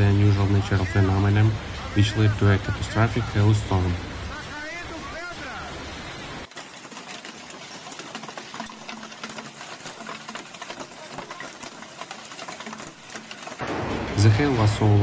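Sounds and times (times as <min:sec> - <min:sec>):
hailstones pelting down: 0:00.0 - 0:15.0.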